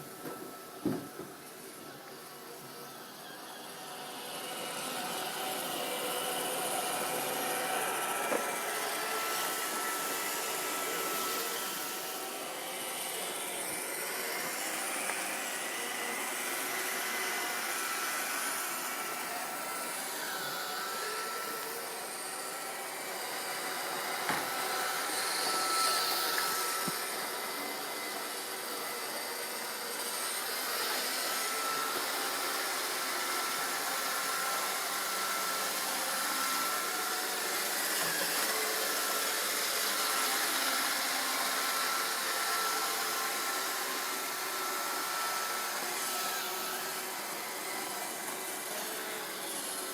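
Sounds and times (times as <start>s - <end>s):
robot vacuum whirring: 0.0s - 49.9s.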